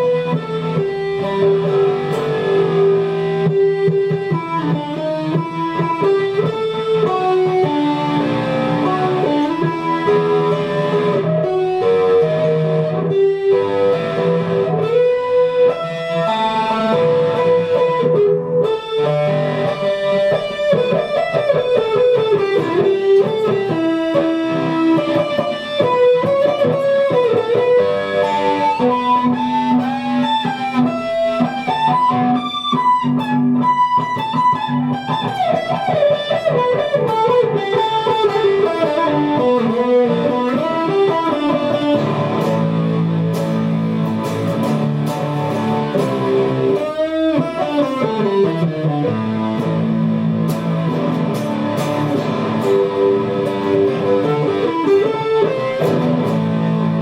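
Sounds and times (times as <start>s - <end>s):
guitar music: 0.0s - 57.0s.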